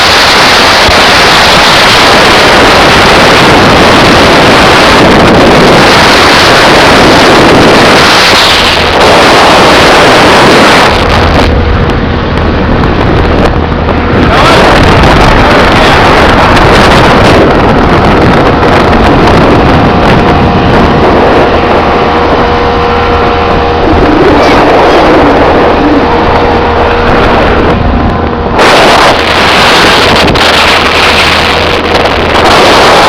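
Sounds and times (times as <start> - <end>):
outboard engine running: 0.0 - 33.0
wind noise on microphone: 0.0 - 33.0.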